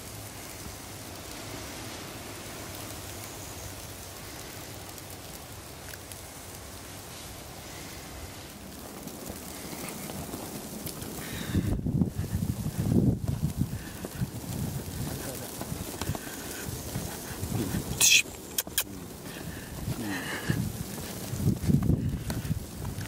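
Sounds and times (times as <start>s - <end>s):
hiss of falling snow: 0.0s - 23.0s.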